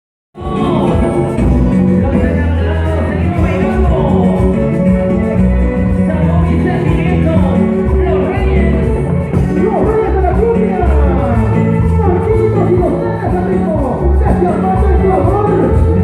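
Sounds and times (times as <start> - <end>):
latin band music with singing: 0.4 - 16.0.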